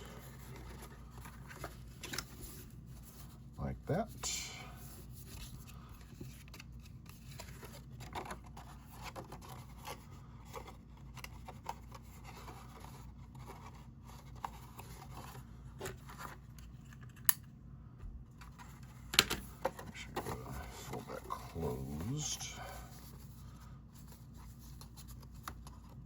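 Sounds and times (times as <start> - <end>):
paper rustling and scraping: 0.0 - 3.5, 4.9 - 17.2, 18.4 - 26.0.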